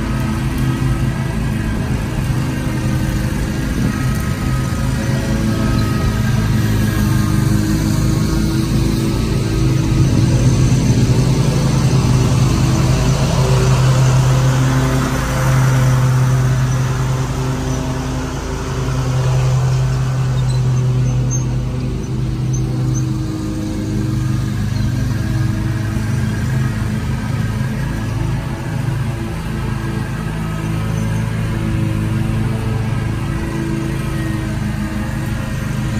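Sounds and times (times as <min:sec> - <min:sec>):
mower engine running: 0:00.0 - 0:35.9.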